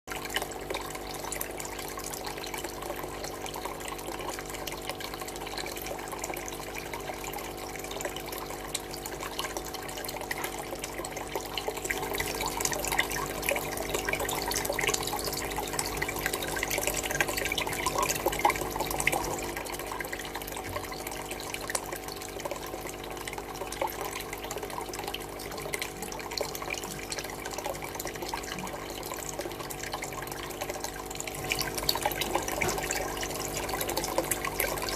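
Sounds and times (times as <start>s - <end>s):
water trickling and splashing: 0.1s - 34.9s.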